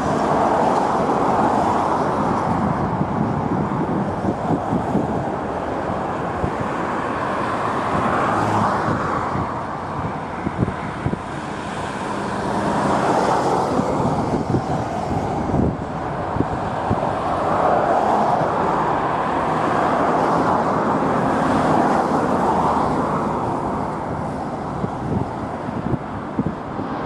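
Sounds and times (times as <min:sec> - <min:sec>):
vehicles passing: 0:00.0 - 0:27.0
wind buffeting microphone: 0:00.0 - 0:27.0.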